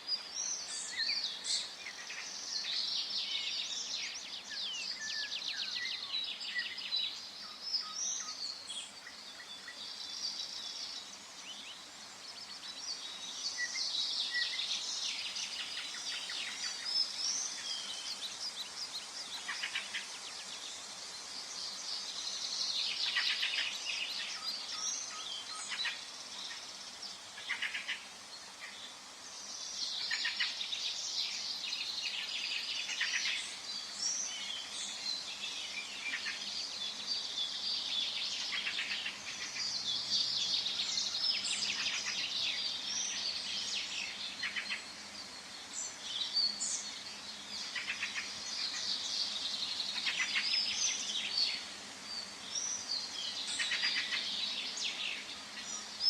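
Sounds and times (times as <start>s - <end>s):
faint forest background hiss: 0.0s - 56.0s
songbirds singing and calling: 0.0s - 56.0s.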